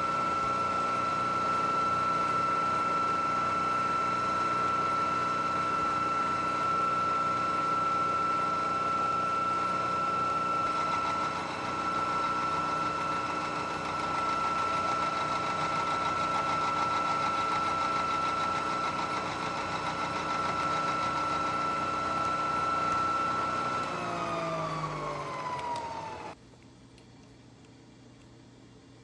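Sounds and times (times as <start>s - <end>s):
milling machine whining: 0.0s - 26.4s.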